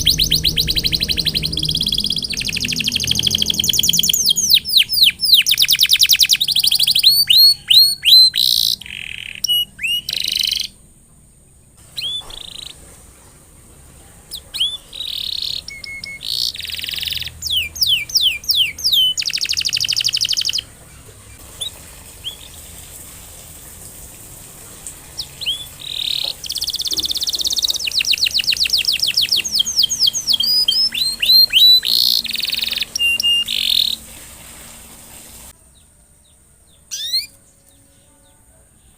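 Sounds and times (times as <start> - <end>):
canary singing trills: 0.0 - 10.8, 11.8 - 12.8, 14.3 - 22.6, 25.2 - 34.2, 35.7 - 38.9.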